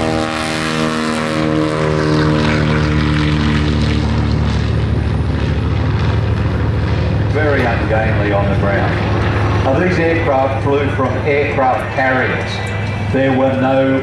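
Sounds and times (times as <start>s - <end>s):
radial aircraft engine droning: 0.0s - 14.0s.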